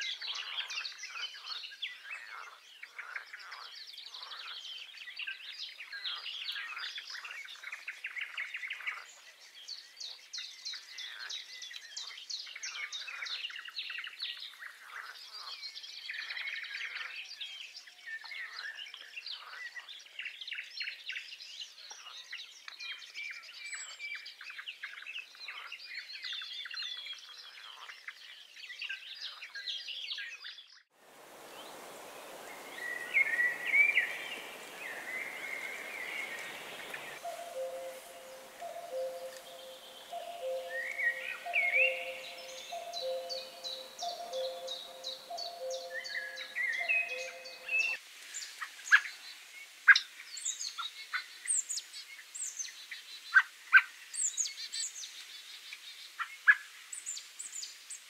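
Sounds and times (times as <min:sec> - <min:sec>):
songbirds chirping and singing: 0:00.0 - 0:48.0.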